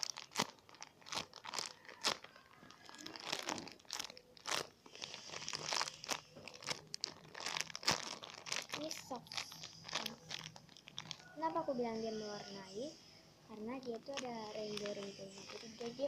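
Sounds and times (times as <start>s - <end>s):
wrapper crinkling: 0.0s - 12.9s, 13.5s - 16.0s.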